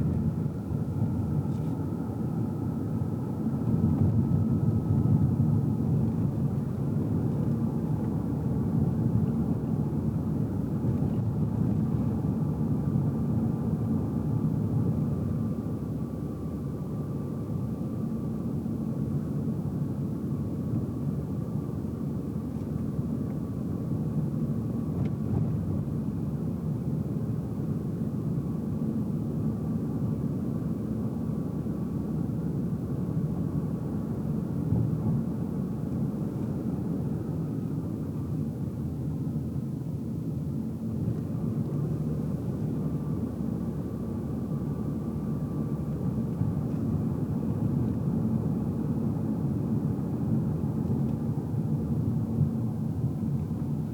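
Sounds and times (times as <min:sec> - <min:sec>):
car road and engine rumble: 0:00.0 - 0:53.9.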